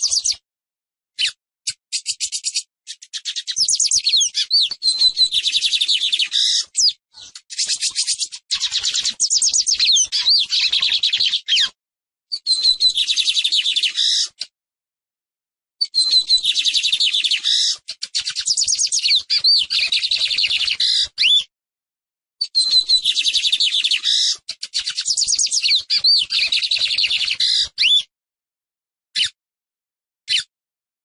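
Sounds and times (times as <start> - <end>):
bird trilled chattering song: 0.0 - 0.4, 1.2 - 14.5, 15.8 - 21.4, 22.4 - 28.0.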